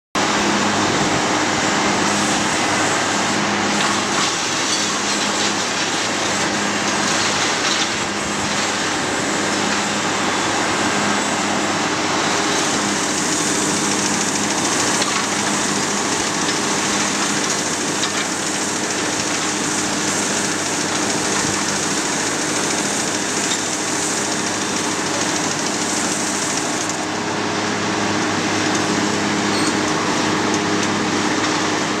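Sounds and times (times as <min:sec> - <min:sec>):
large fan running: 0:00.2 - 0:32.0.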